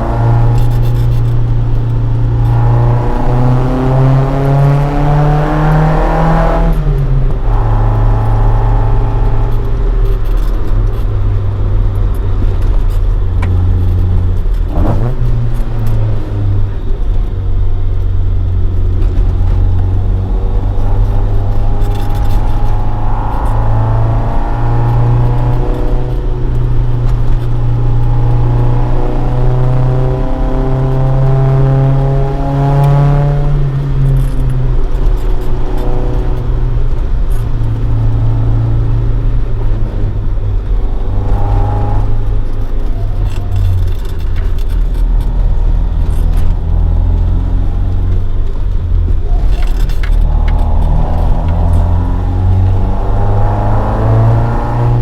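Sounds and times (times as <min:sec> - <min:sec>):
four-cylinder car engine revving: 0:00.0 - 0:55.0.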